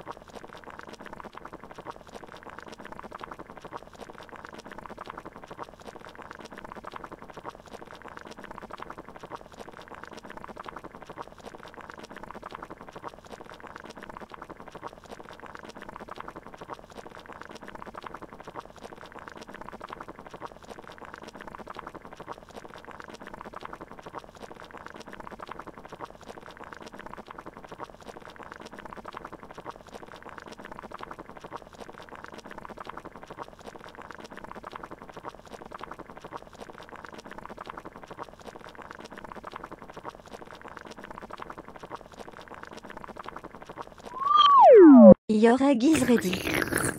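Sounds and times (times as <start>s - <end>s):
water boiling and bubbling: 0.0s - 44.6s, 45.9s - 46.9s.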